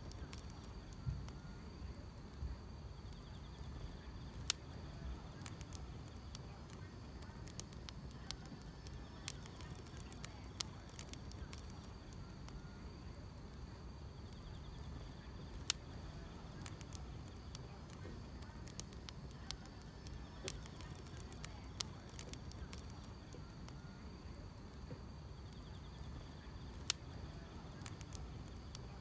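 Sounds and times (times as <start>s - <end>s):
crickets chirring: 0.0s - 29.0s
fire popping sharply: 0.0s - 29.0s
low rumble of flames: 0.0s - 29.0s
wood fire crackling: 0.0s - 29.0s.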